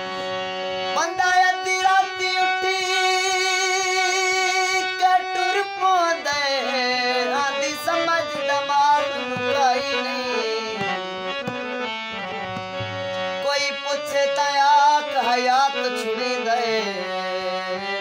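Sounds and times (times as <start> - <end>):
harmonium: 0.0 - 18.0
man singing: 0.5 - 18.0.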